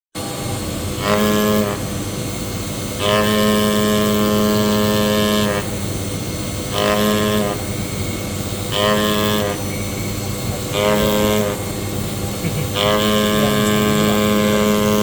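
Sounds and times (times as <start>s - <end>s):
cutting machine humming: 0.2s - 15.0s
motor whine: 0.2s - 15.0s.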